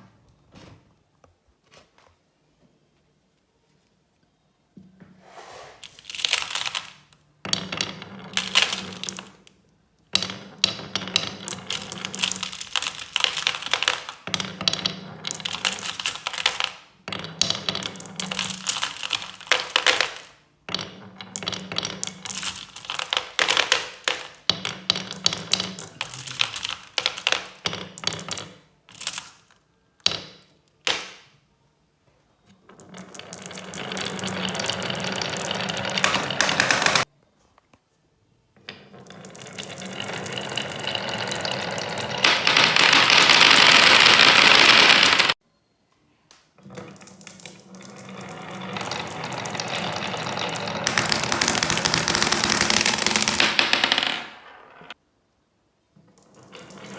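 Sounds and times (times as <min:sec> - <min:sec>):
marbles rolling and clattering: 0:05.8 - 0:31.3, 0:32.5 - 0:37.1, 0:38.7 - 0:45.4, 0:46.6 - 0:55.0, 0:56.1 - 0:56.9.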